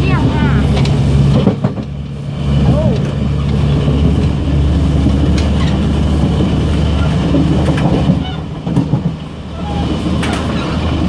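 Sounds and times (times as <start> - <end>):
diesel engine drone: 0.0 - 11.0
rattling wheel and rail noise: 0.0 - 11.0.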